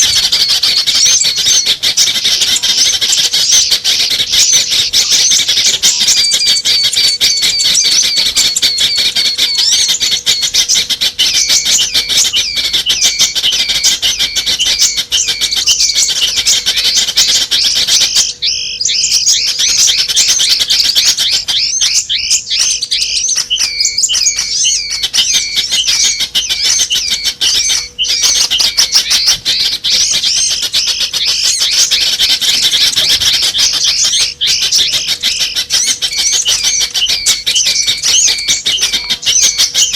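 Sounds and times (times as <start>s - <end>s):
faint steady hum: 0.0s - 39.9s
songbirds chipping and twittering: 0.0s - 39.9s.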